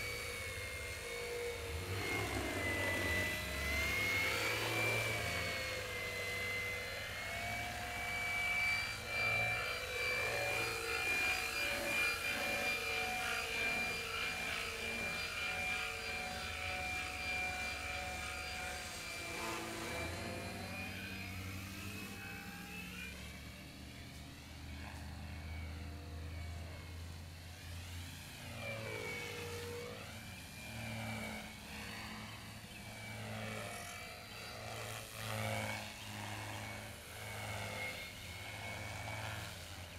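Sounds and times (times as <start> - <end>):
model airplane motor whine: 0.0 - 39.9.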